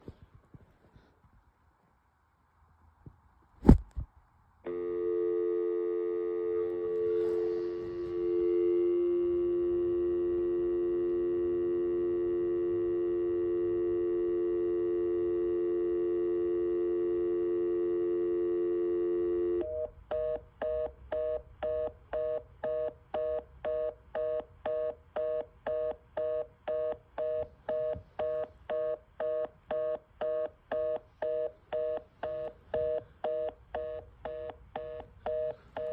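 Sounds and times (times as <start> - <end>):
telephone dial tone: 4.7 - 35.9.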